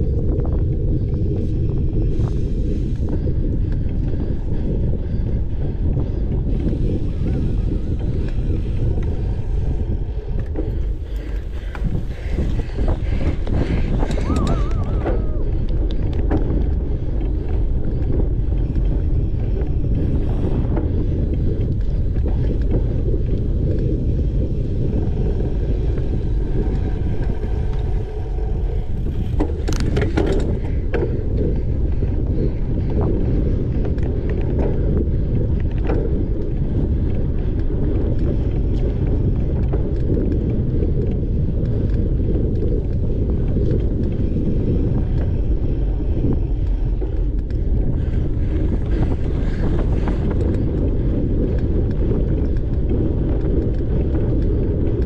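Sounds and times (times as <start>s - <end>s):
bike rattling: 0.0s - 55.0s
wind noise on camera: 0.0s - 55.0s.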